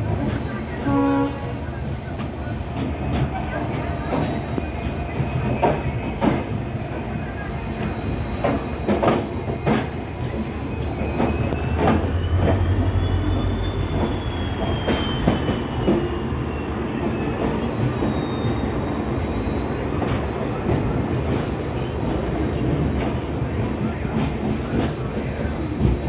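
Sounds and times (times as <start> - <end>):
diesel locomotive engine rumble: 0.0 - 26.0.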